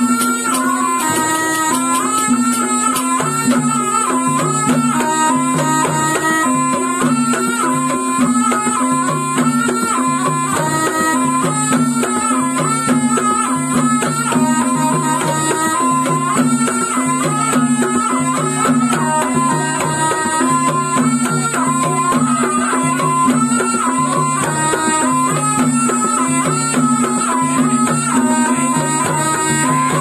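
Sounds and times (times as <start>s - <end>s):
drums: 0.0s - 30.0s
reedy shawm melody: 0.0s - 30.0s
repeating gamelan notes: 0.0s - 30.0s.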